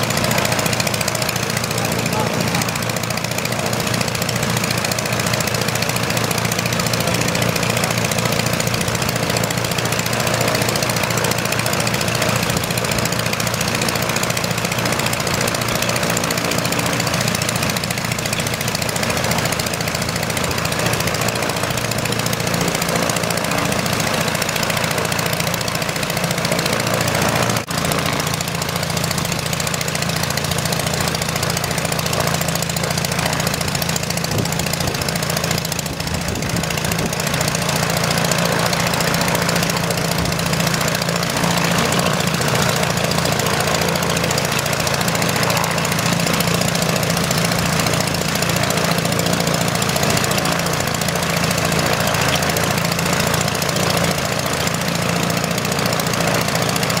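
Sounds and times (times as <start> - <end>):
piston engine idling: 0.0 - 57.0.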